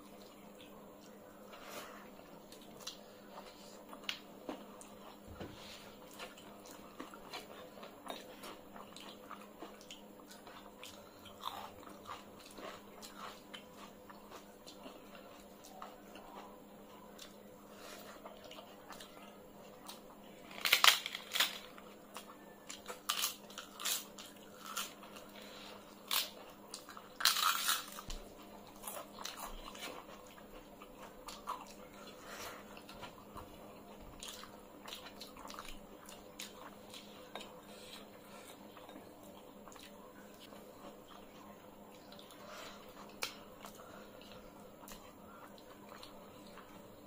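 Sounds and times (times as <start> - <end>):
crunching and chewing: 0.0 - 47.0.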